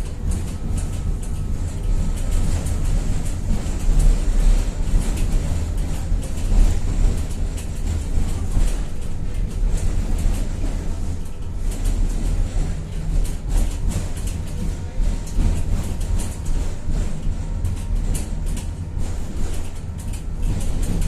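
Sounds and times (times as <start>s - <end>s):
tram rumbling along track: 0.0s - 21.0s
wheels clicking and rattling: 0.0s - 21.0s.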